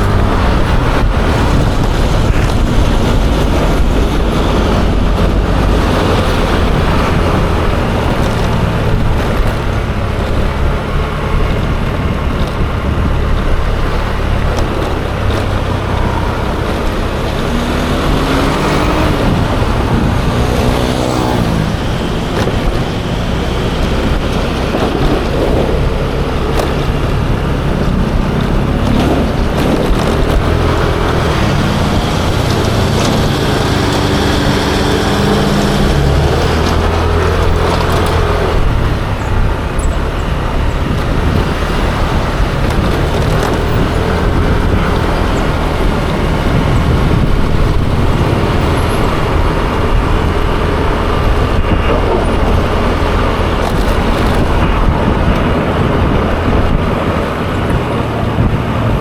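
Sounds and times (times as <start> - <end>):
road traffic: 0.0 - 59.0
scooter engine running: 0.0 - 59.0
wind noise on microphone: 0.0 - 59.0.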